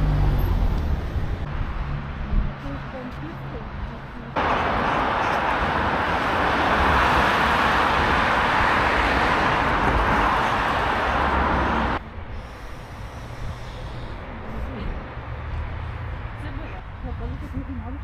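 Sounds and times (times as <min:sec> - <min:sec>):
moving vehicle running noise: 0:00.0 - 0:18.0.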